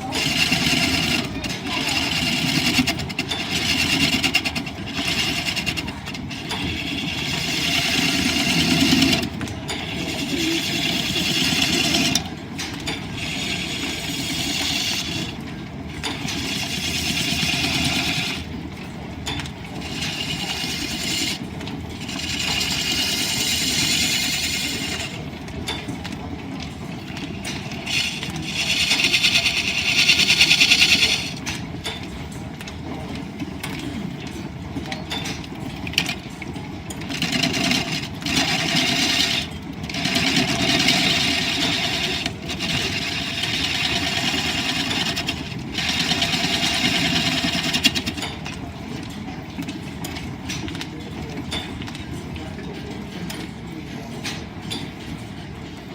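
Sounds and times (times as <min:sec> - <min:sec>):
wood lathe machine noise: 0:00.0 - 0:34.6, 0:35.4 - 0:50.1.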